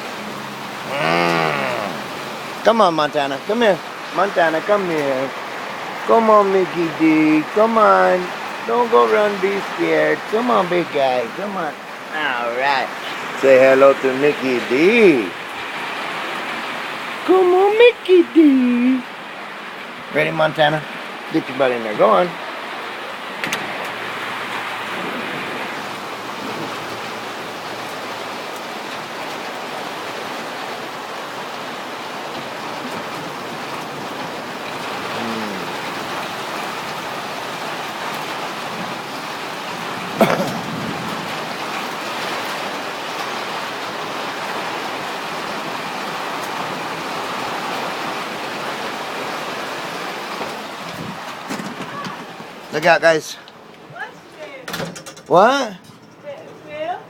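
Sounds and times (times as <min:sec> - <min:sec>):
rain hissing: 0:00.0 - 0:54.5.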